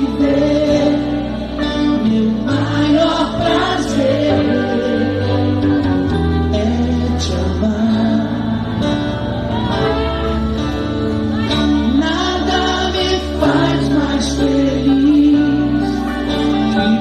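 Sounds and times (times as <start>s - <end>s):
acoustic guitar: 0.0s - 17.0s
low bass notes: 0.0s - 17.0s.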